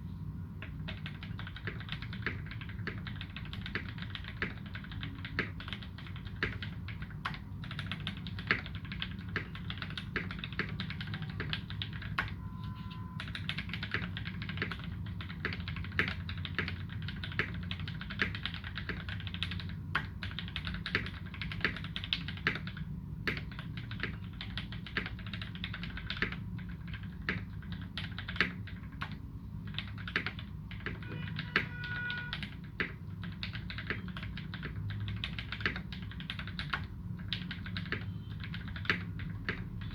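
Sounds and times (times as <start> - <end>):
mechanical keyboard typing: 0.6 - 39.9.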